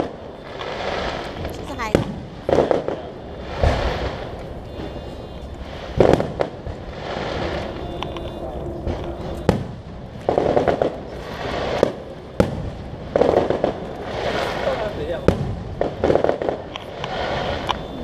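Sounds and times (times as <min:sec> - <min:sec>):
fireworks bangs: 0:00.0 - 0:18.0
fireworks crackling and hissing: 0:00.0 - 0:18.0.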